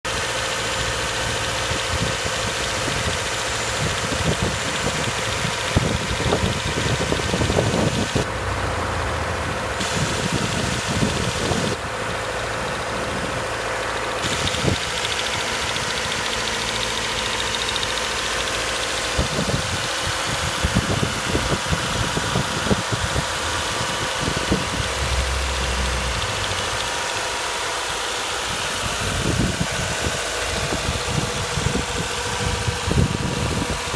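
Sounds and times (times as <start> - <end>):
car engine ticking clatter: 0.0 - 33.9.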